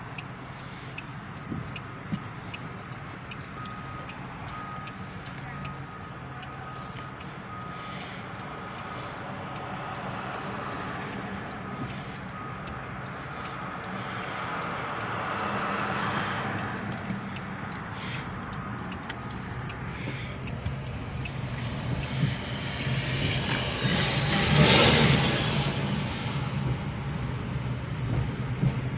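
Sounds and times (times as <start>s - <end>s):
car cabin hum and road noise: 0.0s - 28.9s
reversing alarm beeping: 0.0s - 28.9s.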